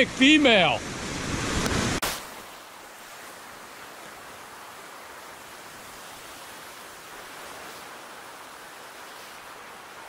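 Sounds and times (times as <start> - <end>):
ocean surf hissing on beach: 0.0 - 10.0.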